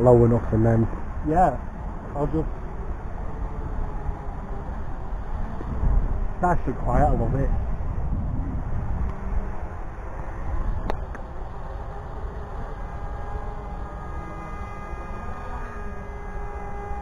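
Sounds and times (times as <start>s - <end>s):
drone motor whine: 0.0s - 17.0s
wind rumbling on microphone: 0.0s - 17.0s.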